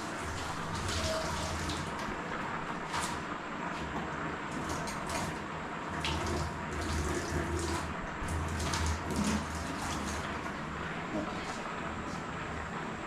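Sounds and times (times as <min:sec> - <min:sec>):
water pouring steadily: 0:00.0 - 0:11.1.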